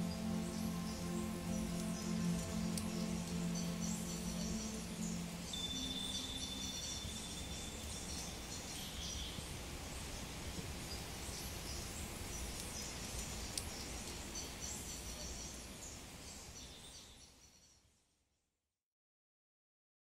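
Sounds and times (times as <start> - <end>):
steady rain falling: 0.0 - 17.0
birds chirping: 0.0 - 17.4.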